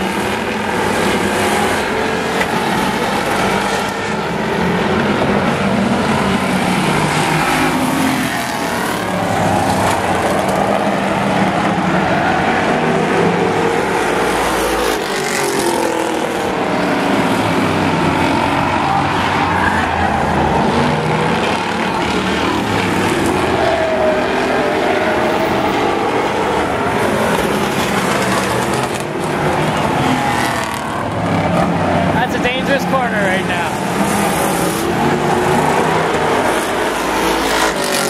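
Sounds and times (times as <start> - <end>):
race car engines revving: 0.0 - 38.0.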